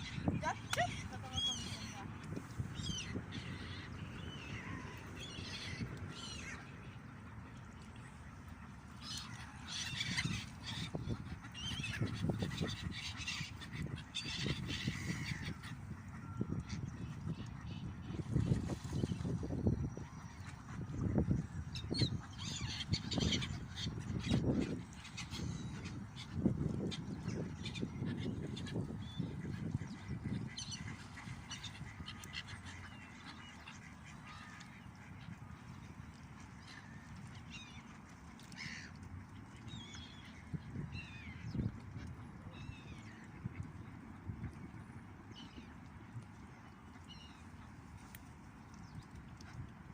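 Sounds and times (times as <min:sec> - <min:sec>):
waterbirds honking: 0:00.0 - 0:49.9.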